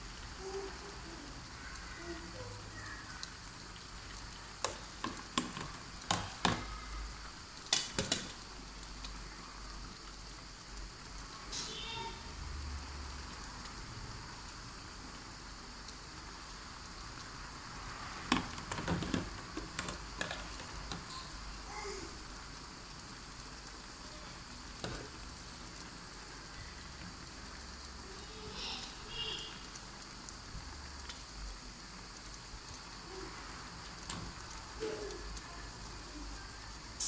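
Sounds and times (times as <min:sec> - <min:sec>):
soup boiling and bubbling: 0:00.0 - 0:37.0.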